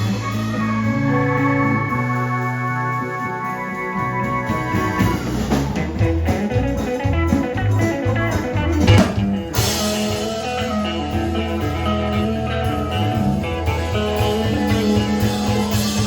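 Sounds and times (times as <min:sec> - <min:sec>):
blues-rock band playing: 0:00.0 - 0:16.0.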